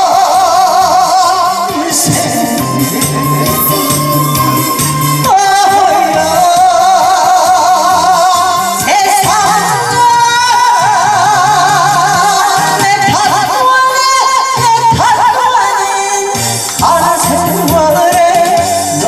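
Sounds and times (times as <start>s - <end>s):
woman singing into a microphone: 0.0s - 19.0s.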